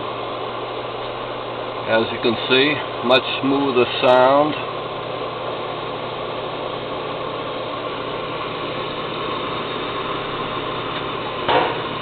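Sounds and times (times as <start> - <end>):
blower motor humming: 0.0 - 12.0.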